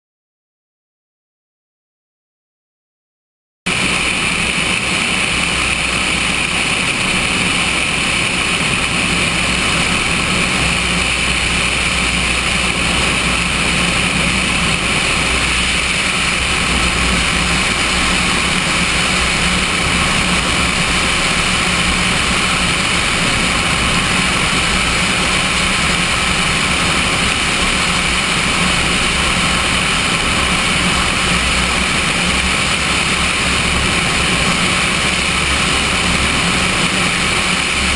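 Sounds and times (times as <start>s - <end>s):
air rushing past: 3.7s - 37.9s
propeller plane engine running: 3.7s - 37.9s.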